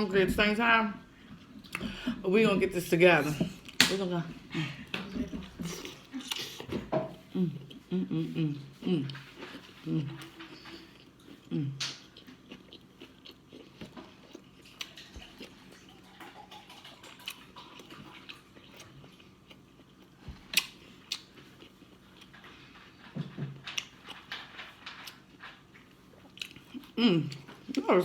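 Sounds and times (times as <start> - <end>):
person chewing and biting: 5.2 - 27.8.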